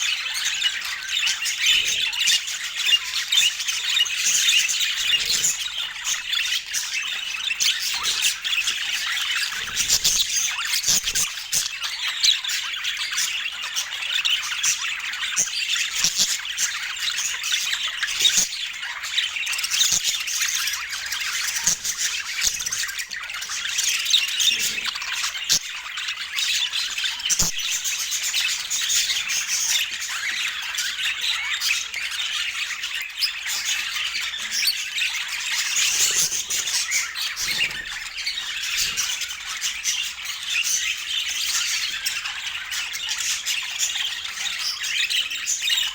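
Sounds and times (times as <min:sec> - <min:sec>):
budgerigars chattering and squawking: 0:00.0 - 0:45.9.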